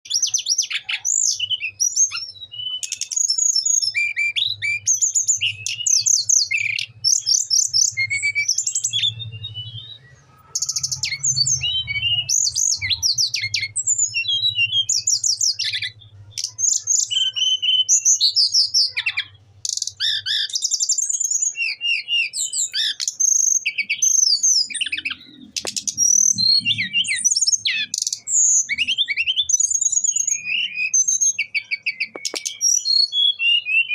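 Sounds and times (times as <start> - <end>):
flycatcher singing: 0.0 - 33.9.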